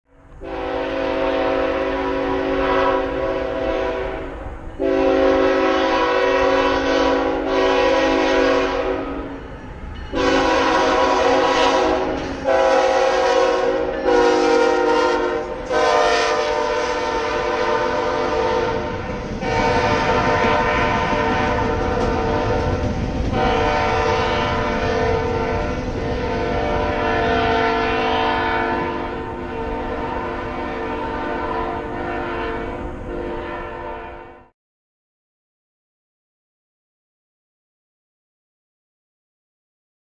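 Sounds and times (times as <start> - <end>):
train rumbling past: 0.1 - 34.5
locomotive air horn blasts: 0.4 - 9.5, 10.1 - 34.5.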